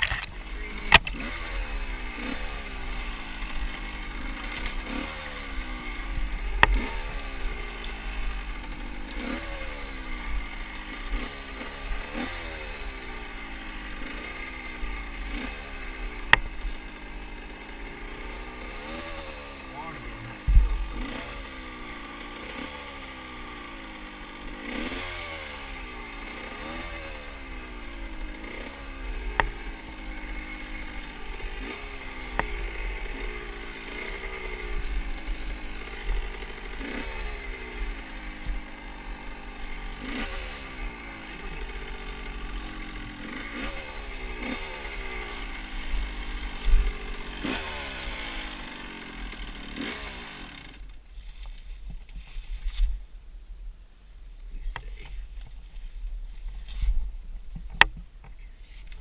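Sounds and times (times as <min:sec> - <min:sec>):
motorcycle engine revving: 0:00.0 - 0:53.0, 0:54.5 - 0:59.0.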